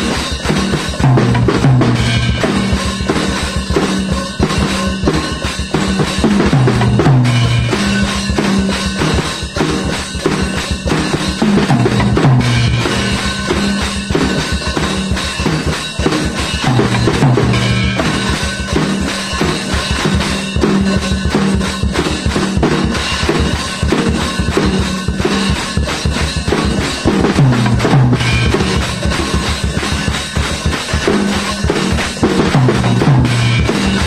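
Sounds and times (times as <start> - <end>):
drum kit playing rock beat: 0.0 - 34.0.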